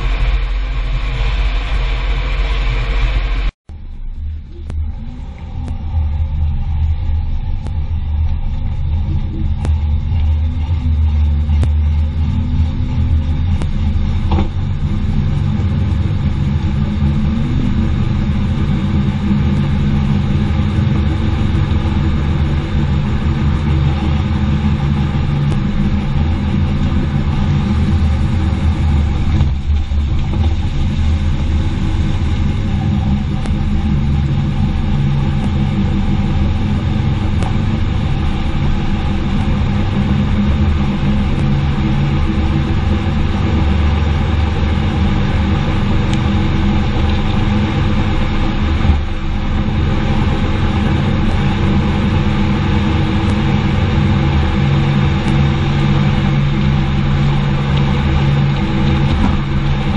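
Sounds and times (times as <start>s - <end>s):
car driving road rumble: 0.0s - 59.9s.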